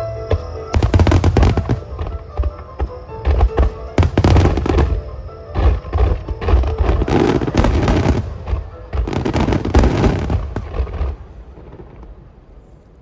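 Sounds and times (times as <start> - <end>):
fireworks bursting and crackling: 0.3 - 12.5.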